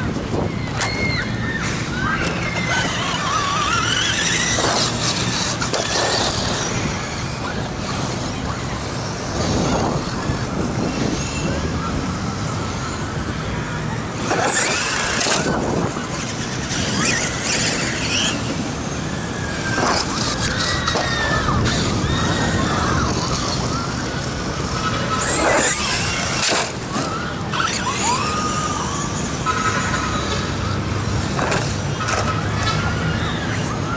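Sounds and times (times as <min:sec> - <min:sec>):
electric motors whining: 0:00.0 - 0:33.9.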